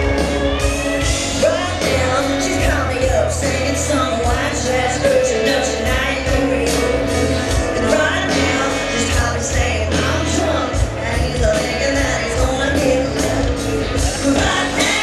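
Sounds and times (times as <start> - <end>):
bass guitar: 0.0 - 15.0
drums: 0.0 - 15.0
electric guitars: 0.0 - 15.0
woman singing lead vocal: 1.1 - 15.0.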